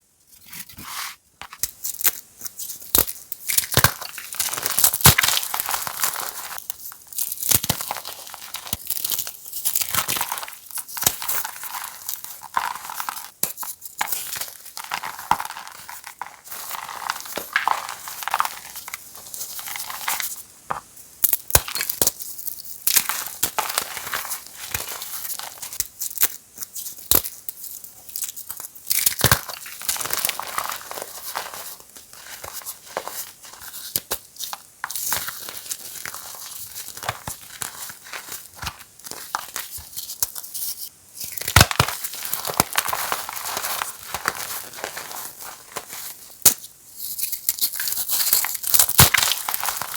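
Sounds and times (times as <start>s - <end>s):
chalk crushing and crunching: 0.4s - 49.9s.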